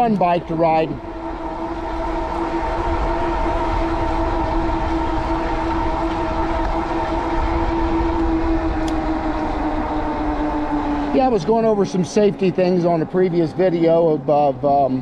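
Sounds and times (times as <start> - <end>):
electric hub motor whine: 0.0 - 15.0
wind buffeting microphone: 0.0 - 15.0.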